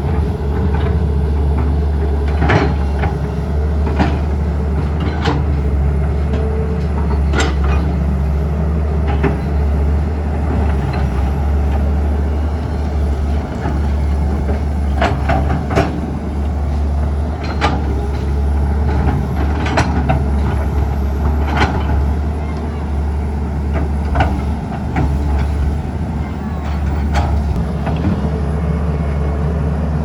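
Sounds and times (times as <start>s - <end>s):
demolition machinery engine rumbling: 0.0s - 30.0s.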